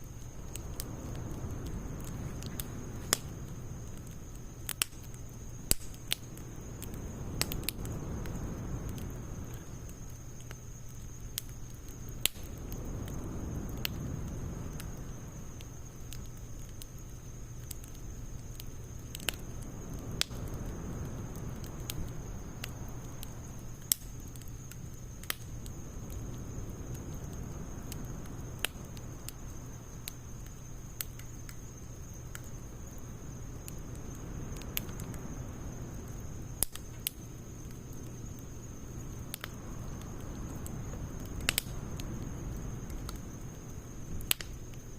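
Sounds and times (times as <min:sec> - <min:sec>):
fire popping and crackling: 0:00.0 - 0:44.9
fire rushing: 0:00.0 - 0:44.9.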